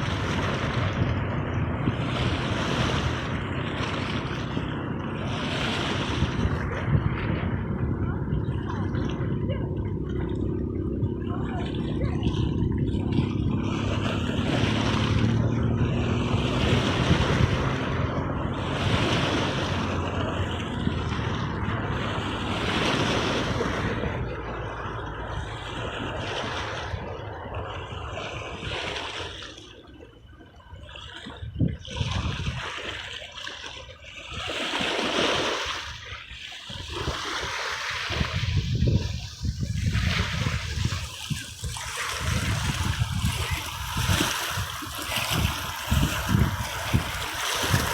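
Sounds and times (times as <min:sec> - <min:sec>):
low rumble: 0:00.0 - 0:30.6, 0:38.1 - 0:47.9
sea waves breaking: 0:00.0 - 0:47.9.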